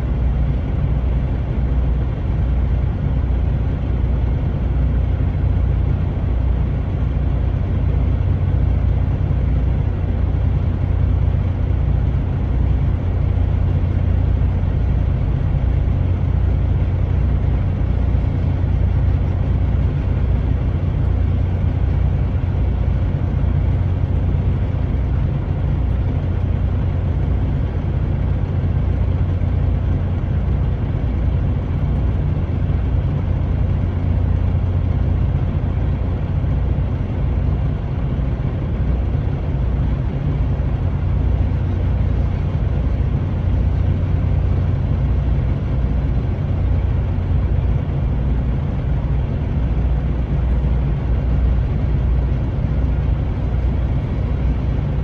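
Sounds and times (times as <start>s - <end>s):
road noise: 0.0s - 55.0s
truck engine rumble: 0.0s - 55.0s.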